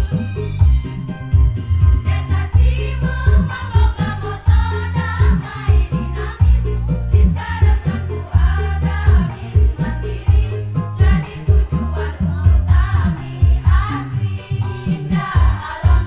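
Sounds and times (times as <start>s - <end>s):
accompaniment with bass and beat: 0.0s - 16.0s
women's choir singing: 2.1s - 16.0s.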